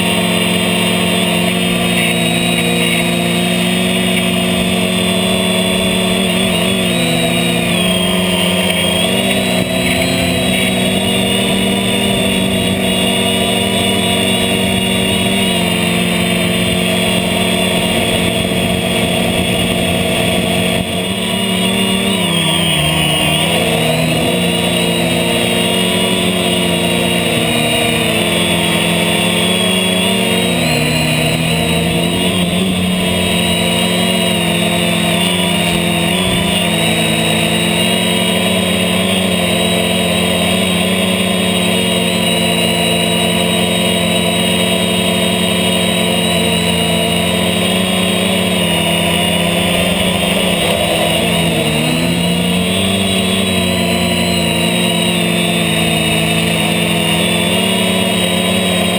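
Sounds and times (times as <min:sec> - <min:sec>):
drone propellers buzzing: 0:00.0 - 0:58.9.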